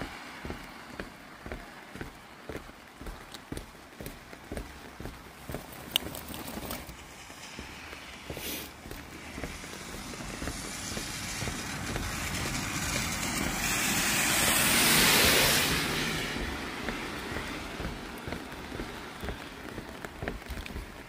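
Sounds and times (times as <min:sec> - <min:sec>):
tyres hissing on wet road: 0:00.0 - 0:03.4, 0:04.8 - 0:21.0.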